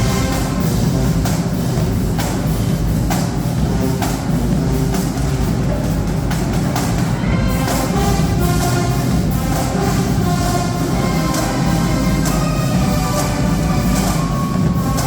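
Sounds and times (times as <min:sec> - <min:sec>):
marching band playing: 0:00.0 - 0:15.0
sharp percussion strokes: 0:00.0 - 0:15.0.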